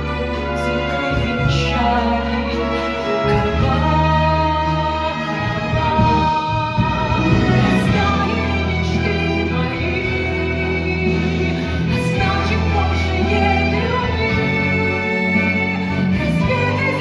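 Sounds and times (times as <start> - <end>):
sustained musical accompaniment: 0.0 - 17.0.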